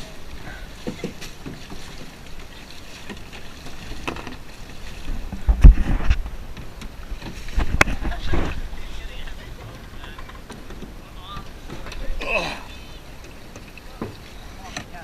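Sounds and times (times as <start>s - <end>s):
paddle splashes: 0.0s - 15.0s
canoe knocks: 0.7s - 8.7s, 9.5s - 12.4s, 13.1s - 15.0s.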